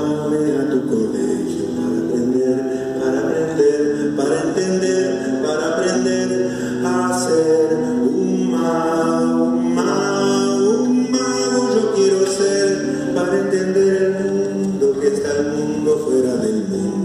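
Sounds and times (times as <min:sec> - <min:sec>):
acoustic classical guitar: 0:00.0 - 0:17.0
man singing: 0:00.0 - 0:17.0.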